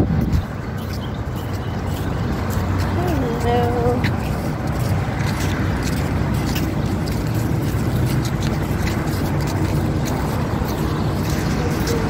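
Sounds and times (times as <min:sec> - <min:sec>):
city street traffic rumble: 0:00.0 - 0:12.0
wind buffeting microphone: 0:00.0 - 0:12.0.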